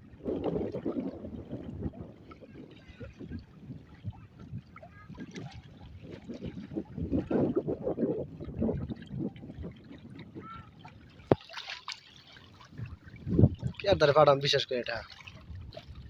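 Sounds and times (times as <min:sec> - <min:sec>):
water splashing around boat: 0:00.0 - 0:16.0.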